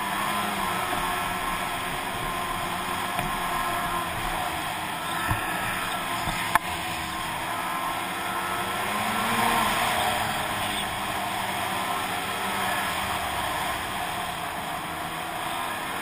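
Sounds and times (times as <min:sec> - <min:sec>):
snowmobile engine running: 0:00.0 - 0:16.0
snowmobile track noise: 0:00.0 - 0:16.0.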